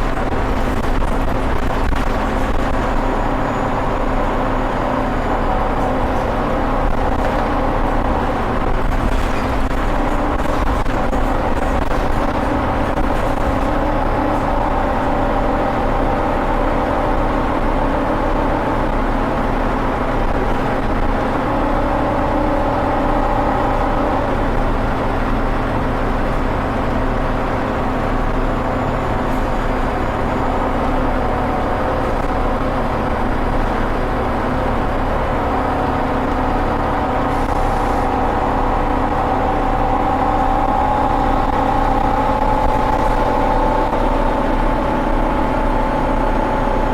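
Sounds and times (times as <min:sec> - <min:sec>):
bus engine working hard: 0:00.0 - 0:46.9
low road rumble: 0:00.0 - 0:46.9.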